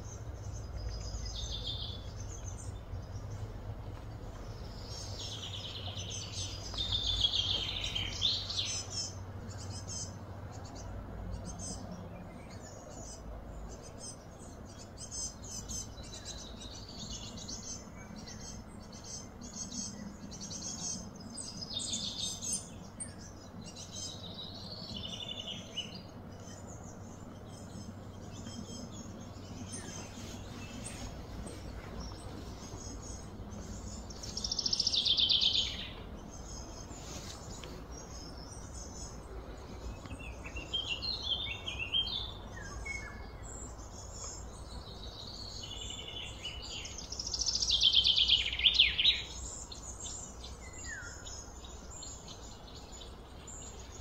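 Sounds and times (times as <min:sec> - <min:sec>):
birds chirping and calling: 0:00.0 - 0:54.0
low background hum: 0:00.0 - 0:54.0.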